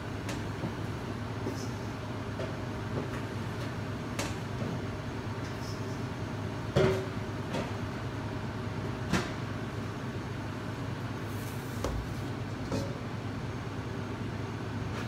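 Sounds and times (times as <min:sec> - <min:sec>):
kitchen ventilation hum: 0:00.0 - 0:15.0.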